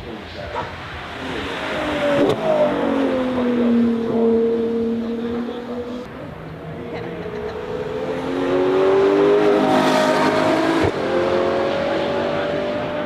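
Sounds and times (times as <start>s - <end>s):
car engine accelerating: 0.3s - 13.0s.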